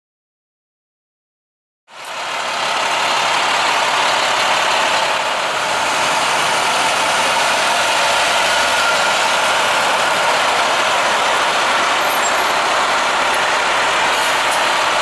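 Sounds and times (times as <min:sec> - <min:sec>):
engine running: 0:01.9 - 0:15.0.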